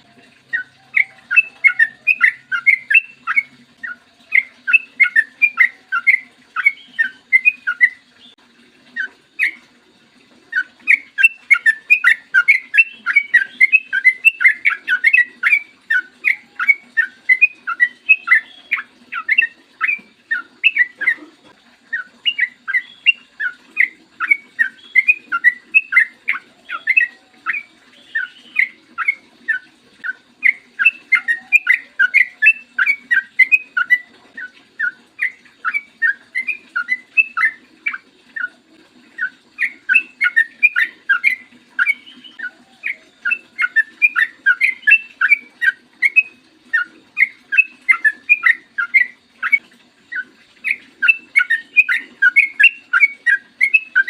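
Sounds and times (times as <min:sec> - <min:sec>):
bird singing bubbly whistles: 0:00.0 - 0:09.7, 0:10.5 - 0:54.0.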